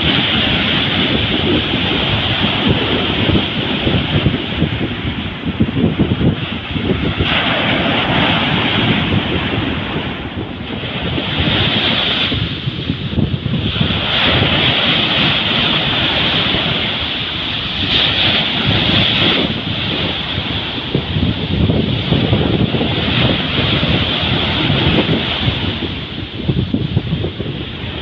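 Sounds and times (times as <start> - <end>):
surf washing up beach: 0.0 - 28.0
wind rumbling on microphone: 0.0 - 28.0.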